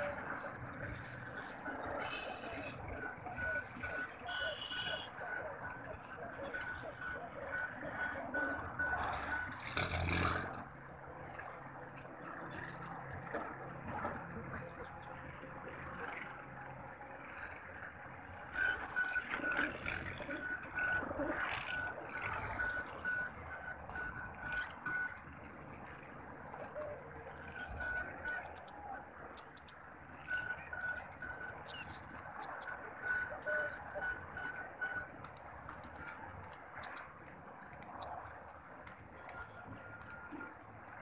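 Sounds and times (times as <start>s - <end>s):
faint outdoor rustling: 0.0s - 41.0s.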